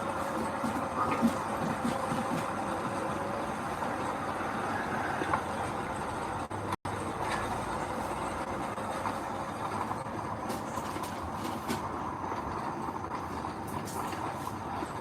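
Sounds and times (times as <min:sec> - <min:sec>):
heavy machinery running: 0:00.0 - 0:15.0.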